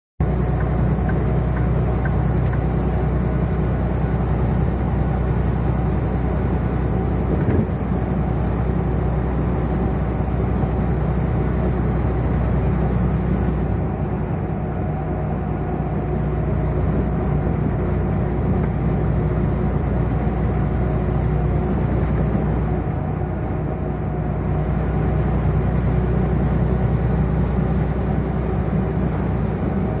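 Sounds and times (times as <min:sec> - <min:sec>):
diesel engine drone: 0:00.2 - 0:30.0
tire and road noise: 0:00.2 - 0:30.0.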